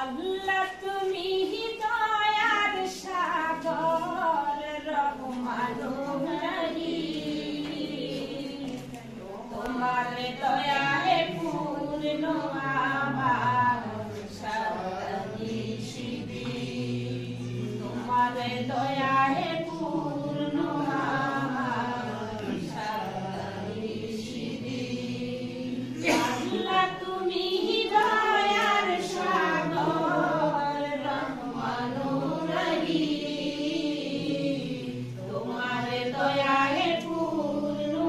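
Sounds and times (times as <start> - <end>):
women singing unaccompanied: 0.0 - 38.0.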